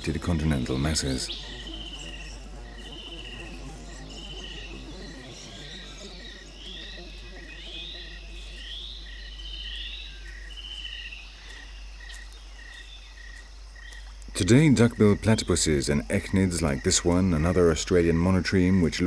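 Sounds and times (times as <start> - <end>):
rising insect calls: 0.0 - 19.0.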